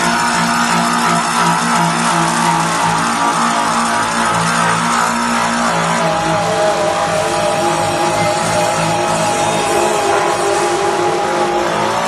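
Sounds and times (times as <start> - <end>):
polishing machine whine and grinding: 0.0 - 12.0.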